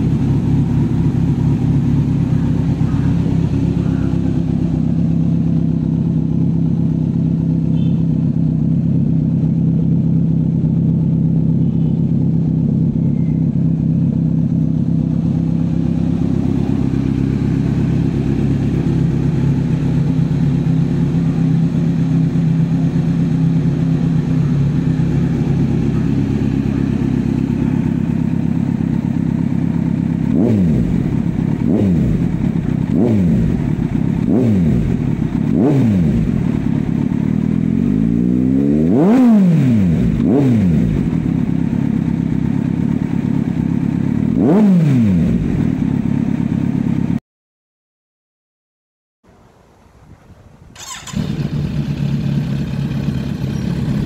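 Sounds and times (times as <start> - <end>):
motorcycle engine idling and revving: 0.0 - 47.2, 50.1 - 54.0.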